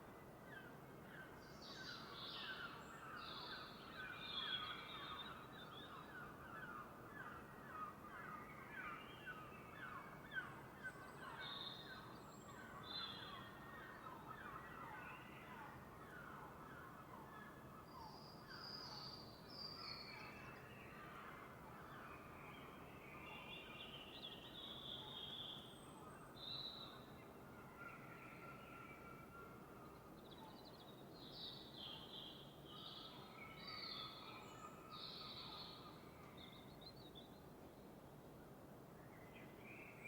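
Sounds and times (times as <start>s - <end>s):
steady outdoor hiss: 0.0s - 40.0s.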